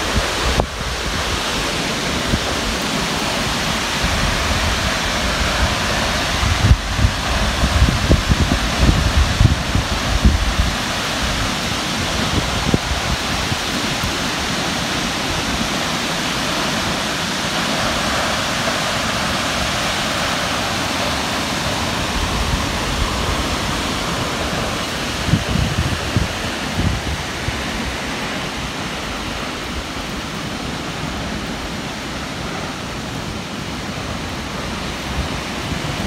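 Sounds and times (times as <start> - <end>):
waterfall roaring: 0.0 - 36.0
wind buffeting microphone: 0.0 - 36.0.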